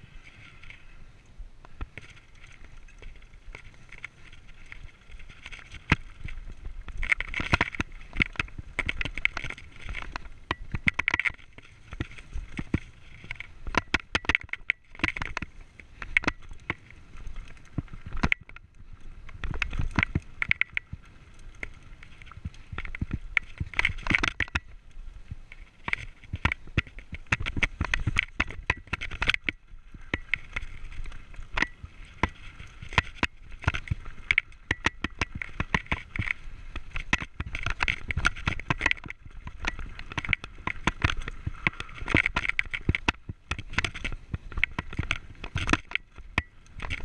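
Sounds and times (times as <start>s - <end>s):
bike tyres crunching over stones: 0.0s - 47.0s
bike rattling over rocks: 1.7s - 47.0s.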